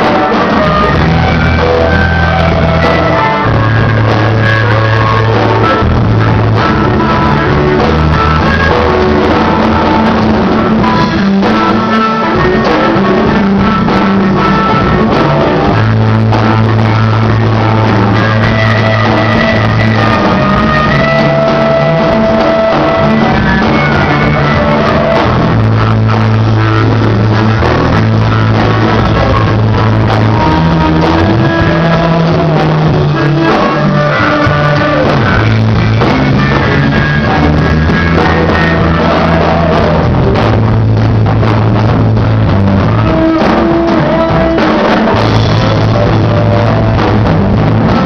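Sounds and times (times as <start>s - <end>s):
bass holding low notes: 0.0s - 48.0s
rock band playing: 0.0s - 48.0s.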